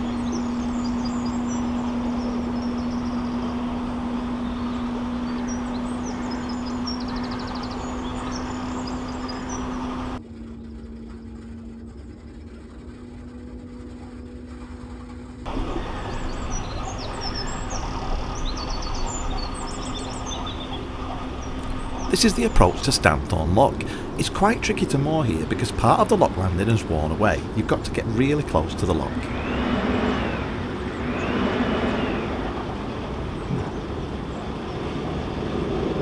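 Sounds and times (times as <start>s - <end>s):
small birds chirping: 0.0s - 12.1s, 15.5s - 36.0s
boat engine hum: 0.0s - 36.0s
wind and water rumble: 0.0s - 36.0s.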